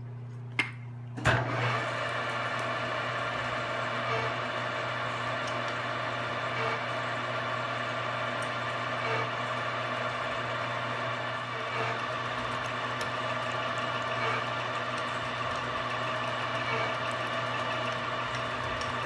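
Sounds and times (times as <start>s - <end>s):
milling machine motor hum: 1.3s - 19.0s.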